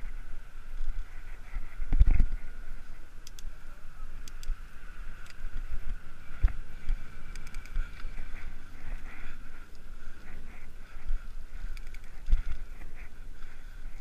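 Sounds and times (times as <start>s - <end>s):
bicycle clicks and rattles: 0.0s - 14.0s
faint steady hum: 0.0s - 14.0s
wind buffeting microphone: 0.0s - 14.0s.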